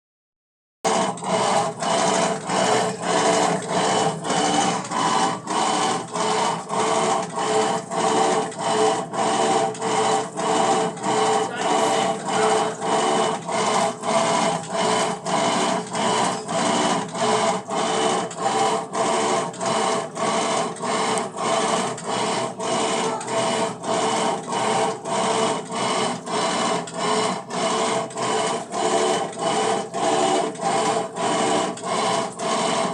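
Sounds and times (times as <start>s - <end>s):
washing machine rhythmic pulsing: 0.9s - 32.9s.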